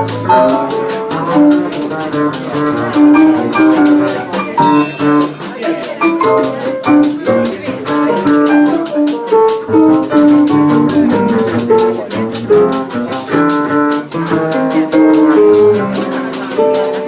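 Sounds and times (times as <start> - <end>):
plucked string melody: 0.0 - 17.0
shaker and cymbal ticks: 0.0 - 17.0.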